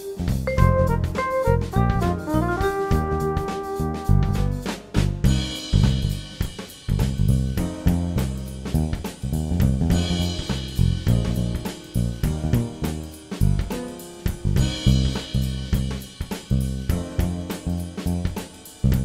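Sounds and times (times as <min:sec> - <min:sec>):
bass line: 0:00.0 - 0:19.0
drum kit beat: 0:00.0 - 0:19.0.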